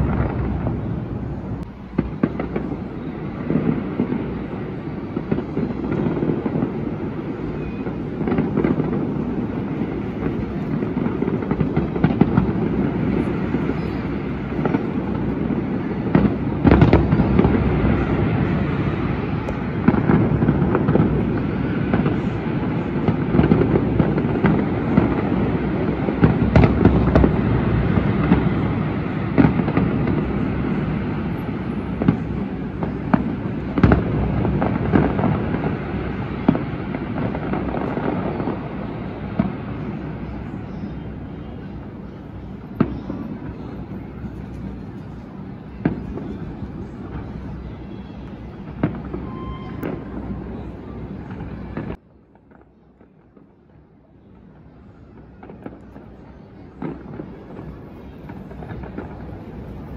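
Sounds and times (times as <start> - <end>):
firework cracks and bangs: 0.0 - 59.9
rumble of firework bursts: 0.0 - 59.9.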